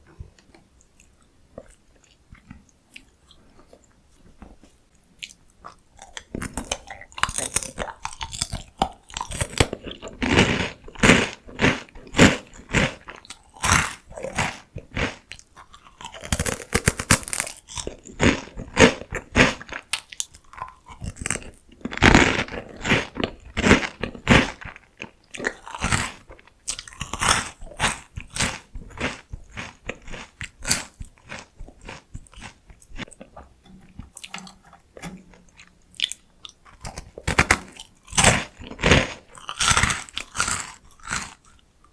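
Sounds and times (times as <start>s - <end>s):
crunching and chewing snacks: 0.9s - 41.9s.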